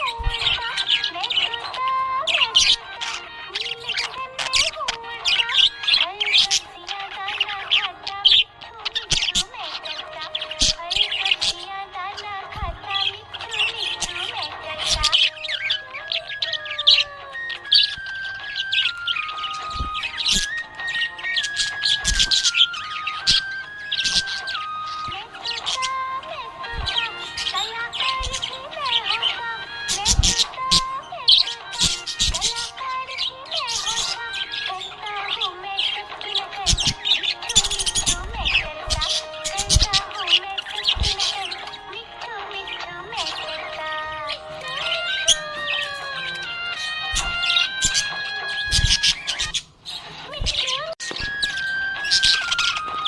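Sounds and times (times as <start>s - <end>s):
budgerigars chirping and chattering: 0.0s - 53.0s
slow background music: 0.0s - 53.0s.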